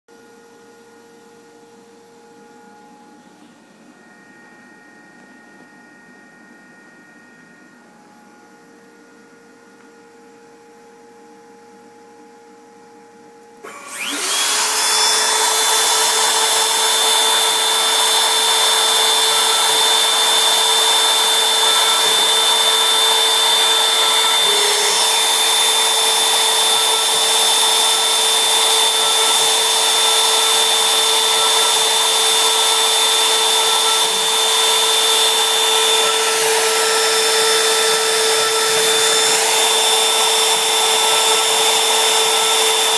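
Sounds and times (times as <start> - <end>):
machine spindle whine: 0.1 - 42.9.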